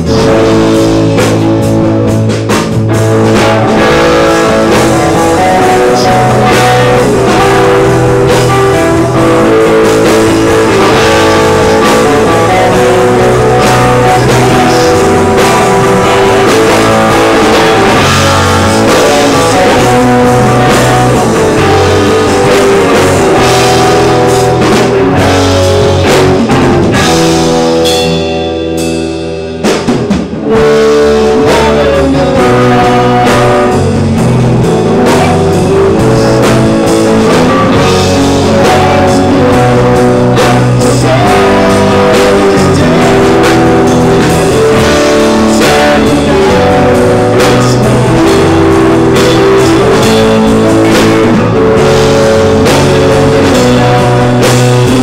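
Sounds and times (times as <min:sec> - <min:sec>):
rock music with guitar and drums: 0:00.0 - 0:55.0.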